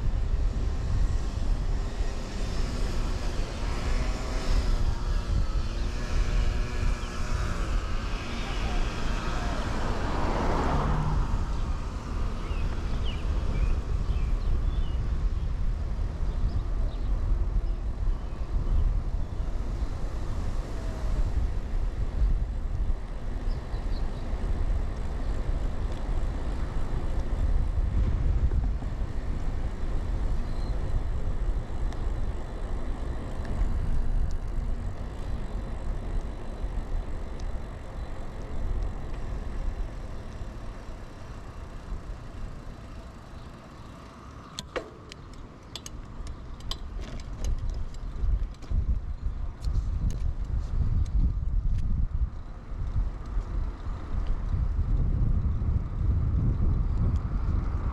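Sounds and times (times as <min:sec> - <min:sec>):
wind buffeting microphone: 0:00.0 - 0:43.9, 0:44.6 - 0:57.9
bicycle tyres rolling on pavement: 0:00.0 - 0:57.9.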